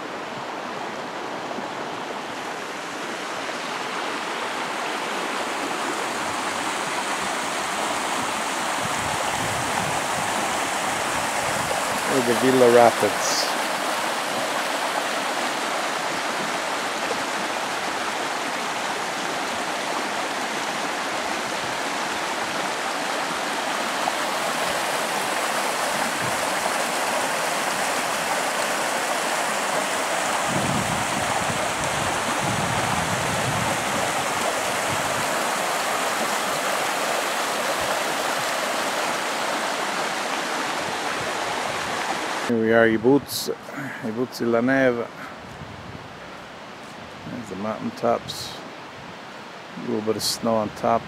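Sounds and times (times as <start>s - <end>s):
river rapids rushing over stones: 0.0s - 42.5s.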